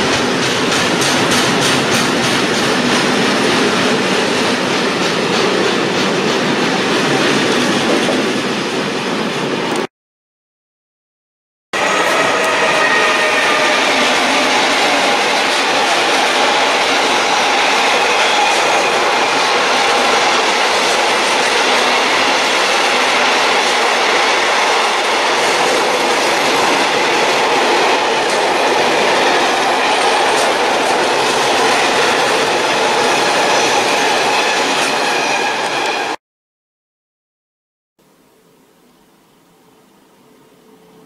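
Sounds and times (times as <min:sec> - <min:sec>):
freight train rolling past: 0:00.0 - 0:09.9, 0:11.8 - 0:36.2.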